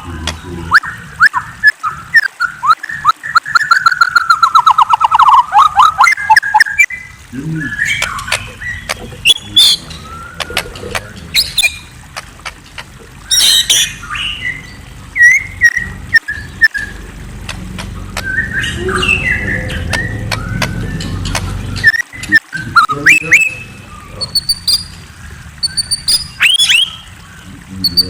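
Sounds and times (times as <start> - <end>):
songbird singing: 0.0 - 28.0.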